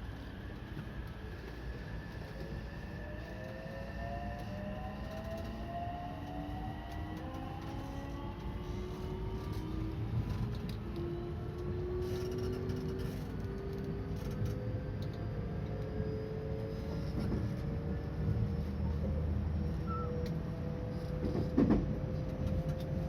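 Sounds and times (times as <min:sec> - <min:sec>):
train rumble on rails: 0:00.0 - 0:23.0.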